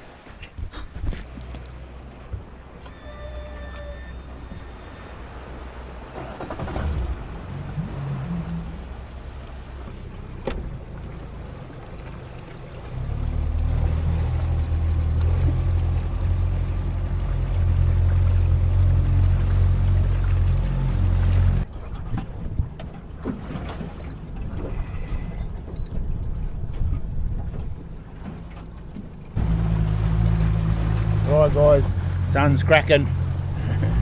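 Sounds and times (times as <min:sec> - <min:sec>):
outboard motor running: 0:00.6 - 0:34.0.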